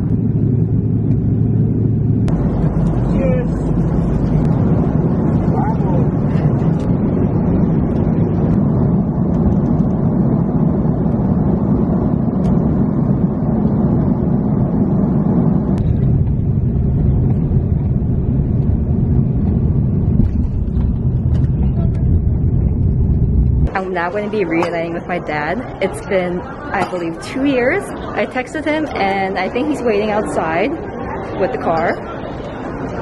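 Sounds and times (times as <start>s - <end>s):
airliner cabin engine rumble: 0.0s - 33.0s.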